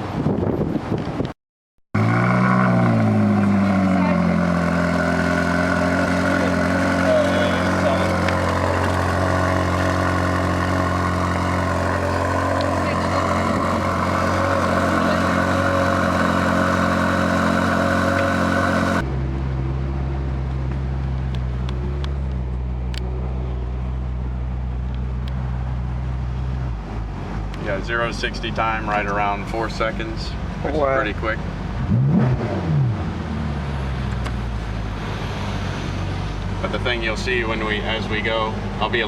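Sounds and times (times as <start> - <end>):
car engine running: 2.0 - 39.0.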